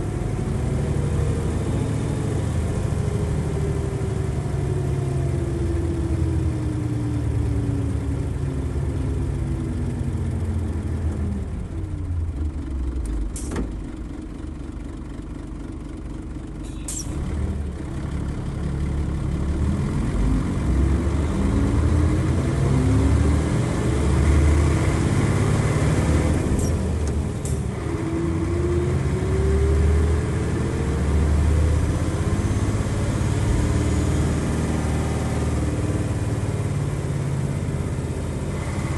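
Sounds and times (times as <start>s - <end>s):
bus diesel engine revving: 0.0s - 13.7s, 16.5s - 38.9s.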